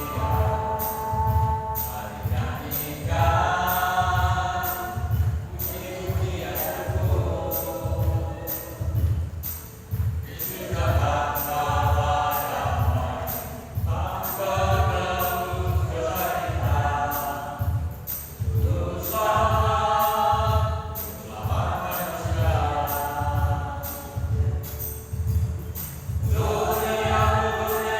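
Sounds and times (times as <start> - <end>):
church choir singing in harmony: 0.0 - 27.9
high rhythmic ticks: 0.0 - 27.9
steady low beat: 0.0 - 27.9.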